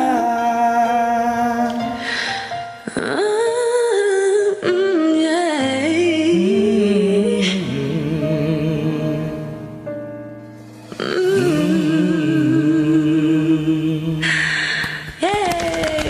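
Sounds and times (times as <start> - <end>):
person singing: 0.0 - 9.8, 10.8 - 16.0
karaoke backing track: 0.0 - 16.0.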